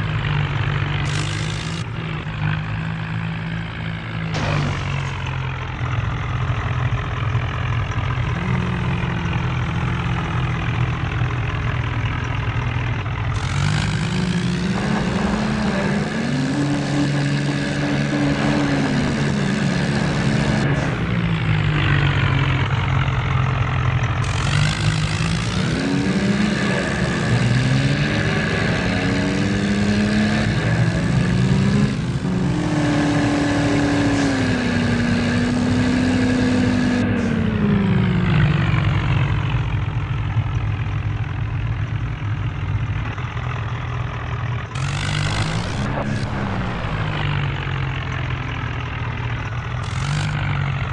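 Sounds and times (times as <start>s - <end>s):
tractor diesel engine revving: 0.0s - 50.9s.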